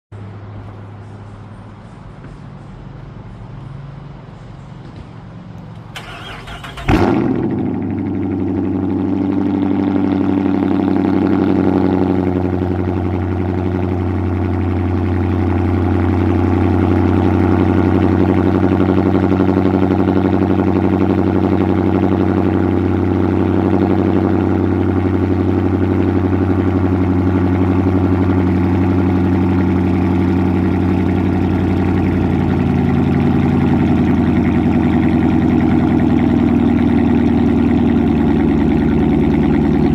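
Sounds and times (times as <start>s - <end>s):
car engine starting and idling: 0.2s - 39.9s.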